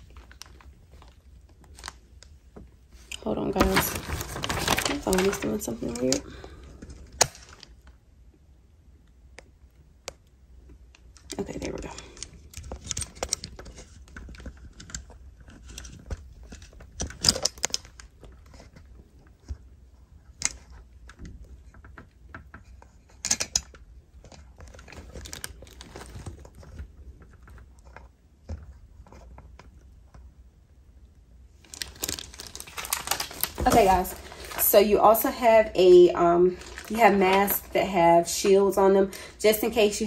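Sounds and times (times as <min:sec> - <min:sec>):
plastic rustling and crinkling: 0:00.0 - 0:08.0, 0:10.6 - 0:30.5, 0:31.5 - 0:40.0.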